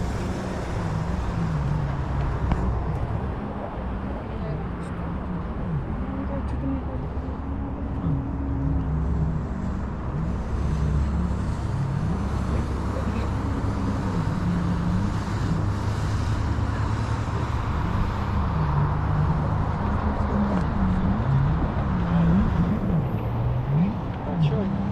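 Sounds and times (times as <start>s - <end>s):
low rumble of road traffic: 0.0s - 24.9s.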